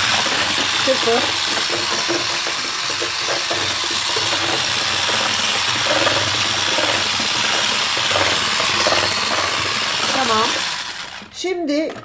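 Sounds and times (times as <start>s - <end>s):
electric hand mixer whisking: 0.0s - 12.0s.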